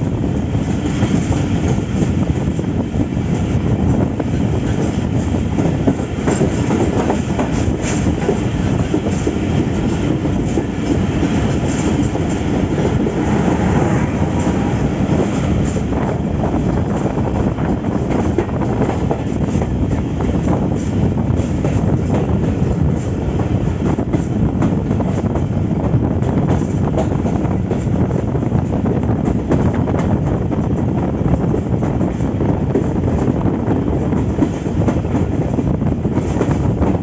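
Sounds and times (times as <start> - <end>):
clacks over track joints: 0.0 - 37.0
train wheels rumbling on rails: 0.0 - 37.0.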